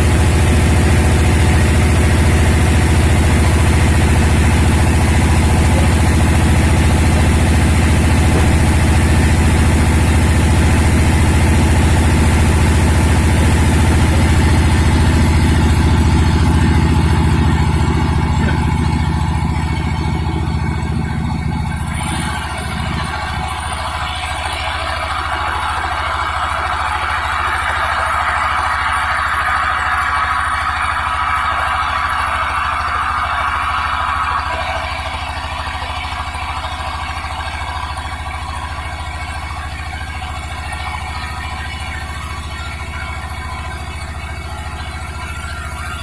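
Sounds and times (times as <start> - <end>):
sawmill machinery humming: 0.0 - 46.0.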